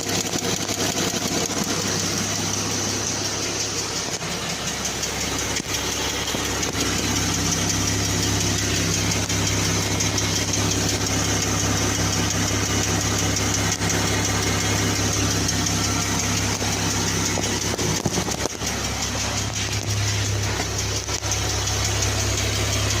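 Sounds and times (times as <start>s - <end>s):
car engine idling with light tick: 0.0s - 23.0s.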